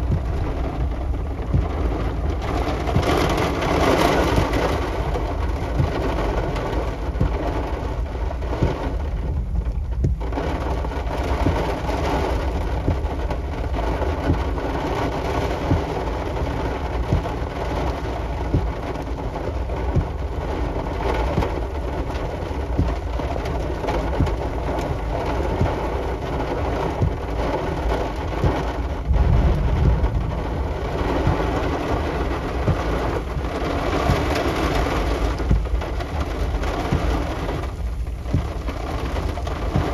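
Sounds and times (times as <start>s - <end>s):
heavy rain pattering: 0.0s - 39.9s
thunder rumbling: 0.0s - 39.9s.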